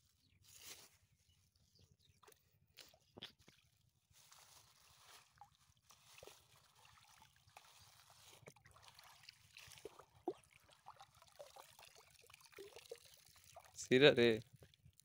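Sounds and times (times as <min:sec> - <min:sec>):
water dribbling from bag: 0:02.2 - 0:15.0
shallow water splashing: 0:02.8 - 0:15.0.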